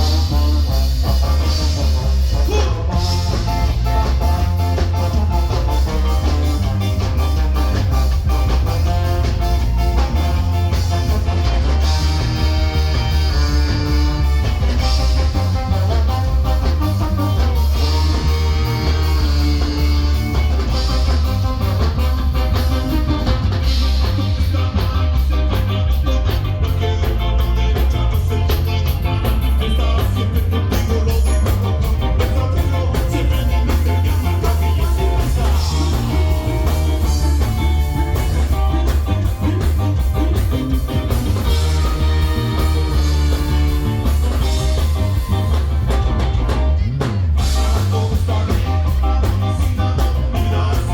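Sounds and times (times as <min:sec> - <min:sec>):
heavy bass line: 0:00.0 - 0:50.9
ska band playing: 0:00.0 - 0:50.9.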